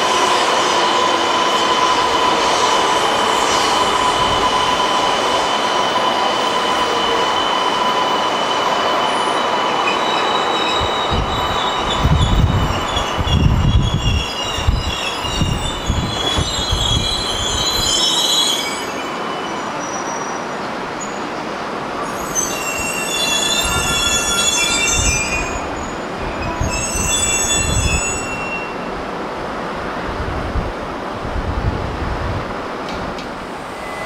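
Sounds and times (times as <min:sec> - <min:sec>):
train wheels squealing: 0:00.0 - 0:21.3, 0:22.0 - 0:28.9, 0:33.4 - 0:34.0
train rumbling slowly: 0:00.0 - 0:34.0.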